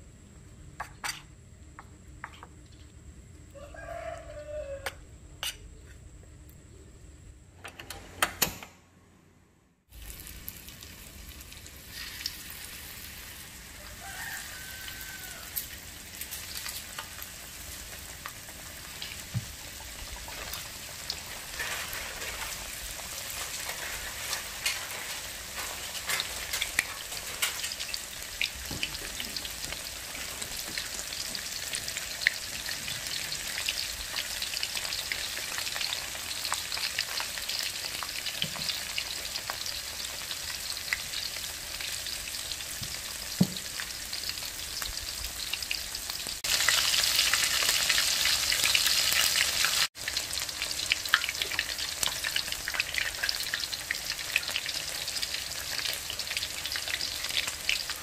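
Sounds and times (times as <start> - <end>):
chicken deep-frying in oil: 0.0 - 5.8, 9.9 - 58.0.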